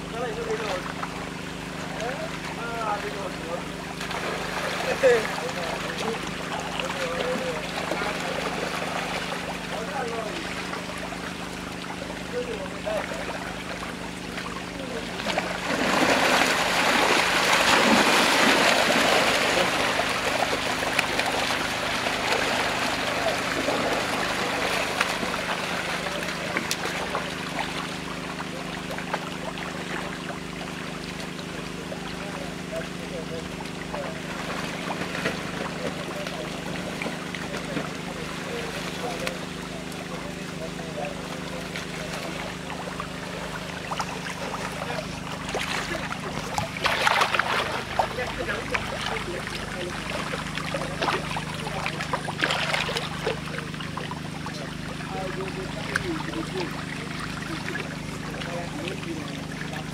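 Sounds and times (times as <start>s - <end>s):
low motor hum: 0.0s - 59.9s
muddy water sloshing and splashing: 0.0s - 59.9s
small splashes and ticks: 0.0s - 59.9s.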